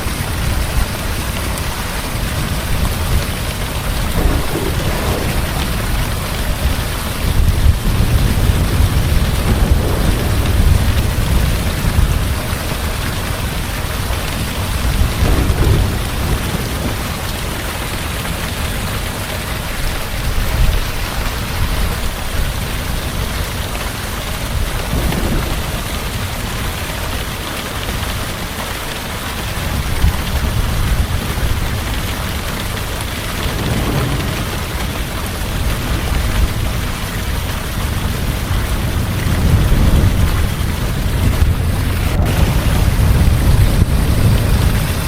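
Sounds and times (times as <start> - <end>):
heavy rain pouring: 0.0 - 45.0
low rolling thunder: 0.0 - 45.0.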